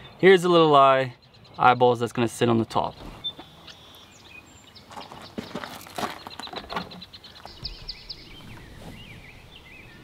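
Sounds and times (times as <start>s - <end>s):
birds chirping and singing: 0.0s - 10.0s.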